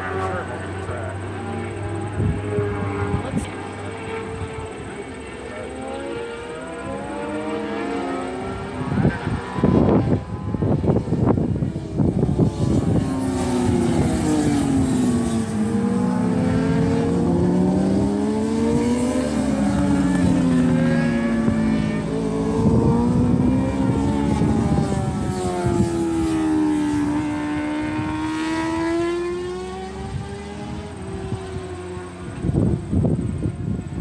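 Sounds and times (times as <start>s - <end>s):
drone propellers whining: 0.0s - 28.1s.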